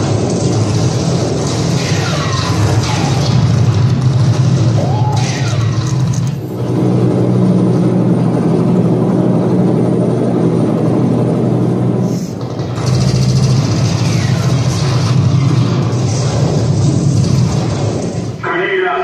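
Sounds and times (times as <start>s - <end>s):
low rumbling soundtrack with hum: 0.0s - 18.5s.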